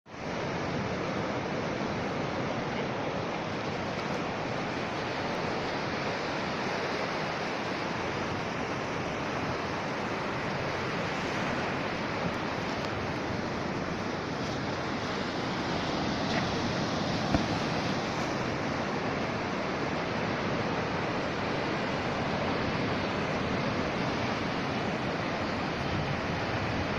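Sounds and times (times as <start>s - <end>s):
sea surf washing ashore: 0.1s - 26.9s.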